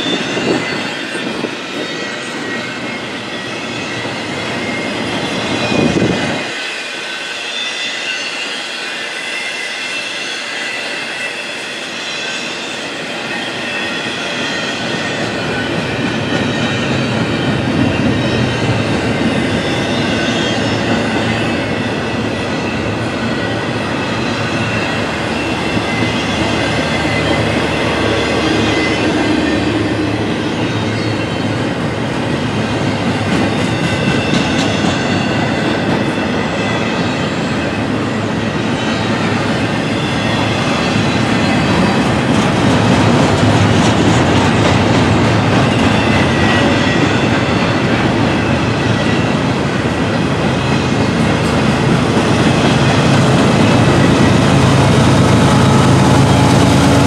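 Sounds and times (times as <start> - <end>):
high wheel squeal: 0.0 - 57.0
train wheels rumbling on rail: 0.0 - 57.0.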